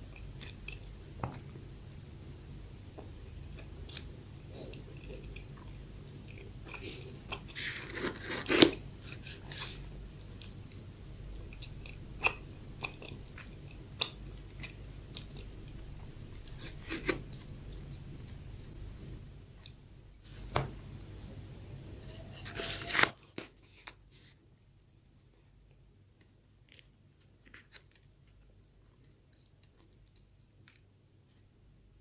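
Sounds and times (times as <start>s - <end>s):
chewing soft bread: 0.0s - 2.2s, 3.0s - 20.2s, 22.5s - 31.6s.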